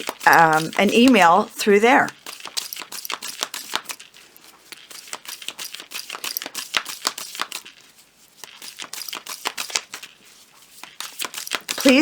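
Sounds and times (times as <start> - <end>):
cards being shuffled: 0.0 - 1.4, 2.1 - 12.0.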